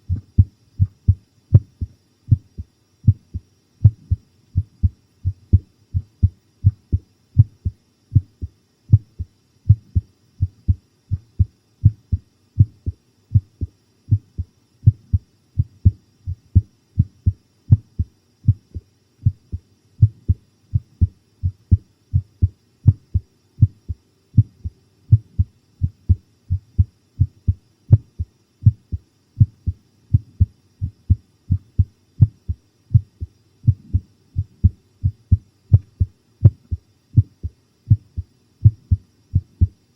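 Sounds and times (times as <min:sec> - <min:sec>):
human heartbeat thumps: 0:00.0 - 0:39.8.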